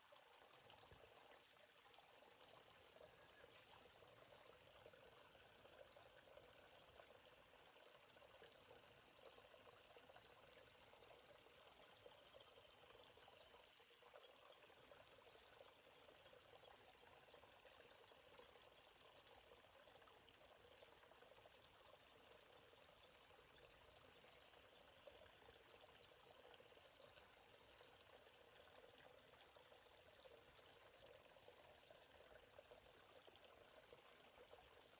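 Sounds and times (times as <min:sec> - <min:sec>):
flowing stream: 0:00.0 - 0:34.9
high-pitched insect chorus: 0:00.0 - 0:34.9.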